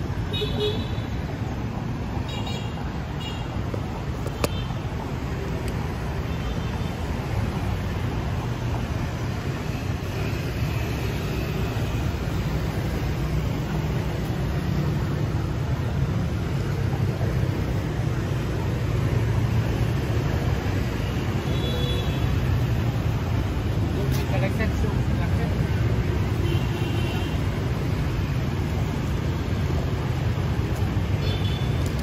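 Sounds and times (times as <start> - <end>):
city street traffic hum: 0.0 - 32.0.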